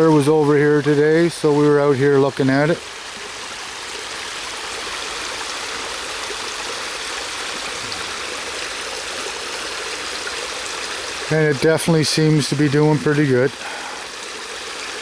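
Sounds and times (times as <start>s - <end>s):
stream water over small falls: 0.0s - 15.0s.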